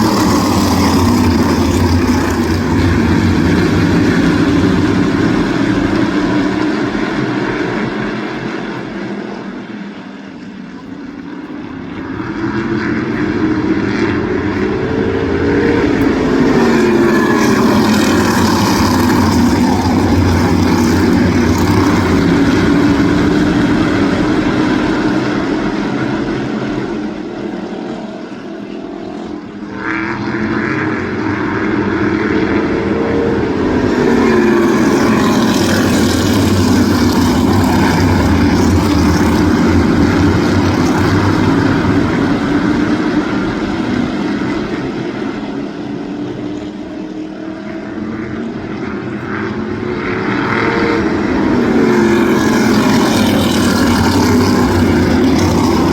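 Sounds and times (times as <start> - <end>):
race car engines passing: 0.0 - 55.9.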